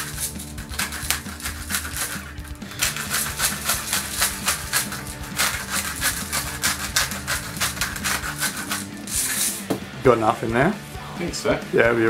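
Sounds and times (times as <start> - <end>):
pepper mill grinding: 0.0 - 9.7
background music: 0.0 - 12.0.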